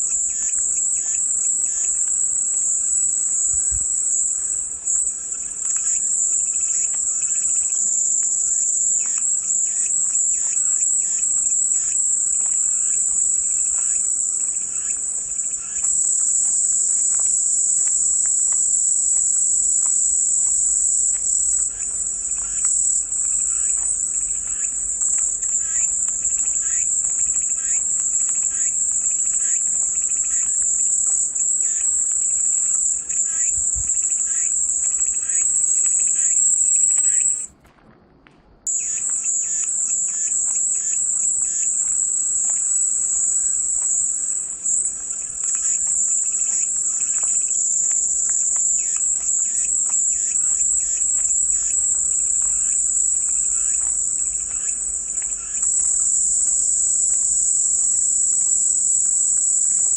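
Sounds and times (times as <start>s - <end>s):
cicadas buzzing: 0.0s - 37.5s, 38.7s - 59.9s.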